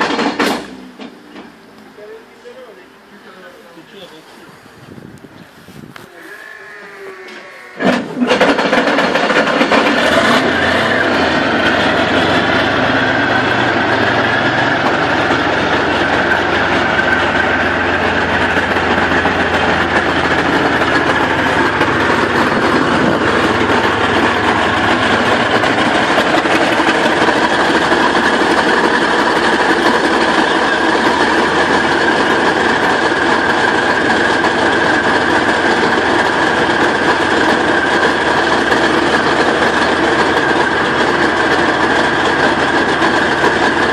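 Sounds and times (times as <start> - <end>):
tank diesel engine idling: 7.8 - 43.9.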